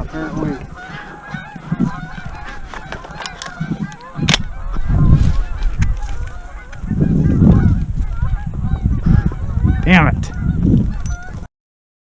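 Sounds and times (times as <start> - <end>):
geese honking: 0.0 - 11.5.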